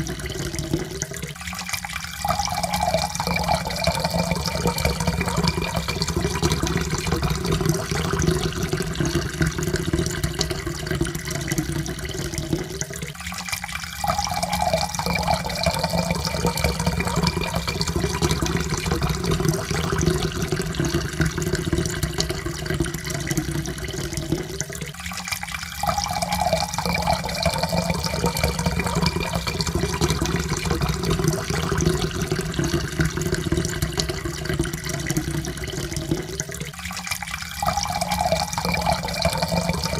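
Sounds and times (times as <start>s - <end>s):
water pouring into a cup: 0.0s - 39.9s.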